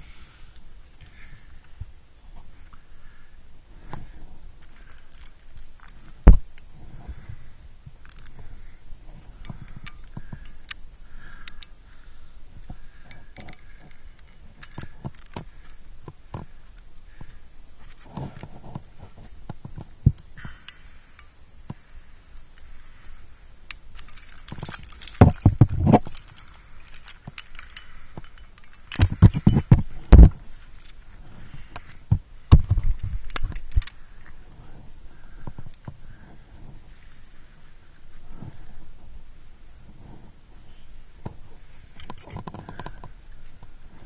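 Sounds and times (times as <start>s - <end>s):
climbing gear clinking: 3.8s - 44.0s.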